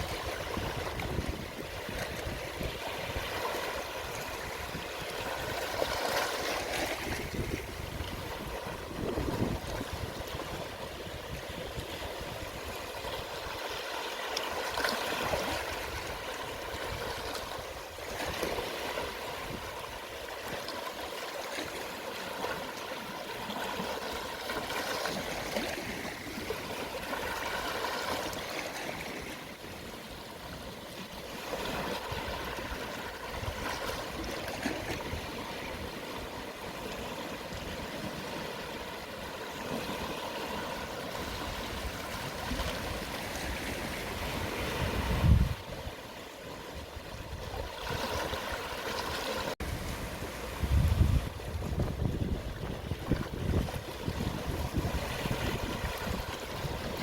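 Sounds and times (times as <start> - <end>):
calm sea waves washing ashore: 0.0 - 57.0.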